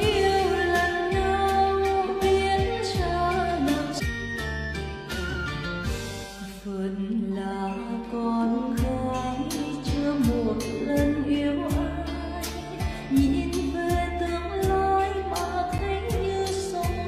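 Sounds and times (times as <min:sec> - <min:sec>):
woman singing into a microphone: 0:00.0 - 0:04.0, 0:06.4 - 0:17.0
bass: 0:00.0 - 0:17.0.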